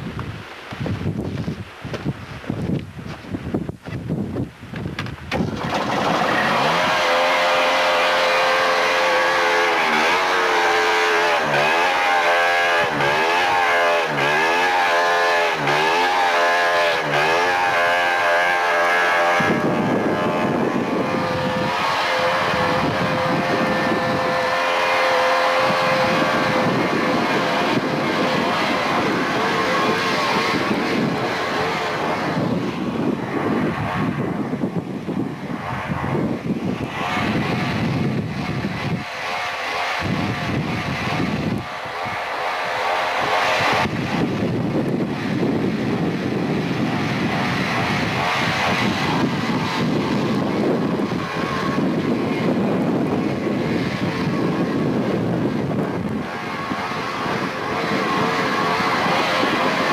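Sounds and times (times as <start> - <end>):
vehicle engine revving: 5.3 - 59.9.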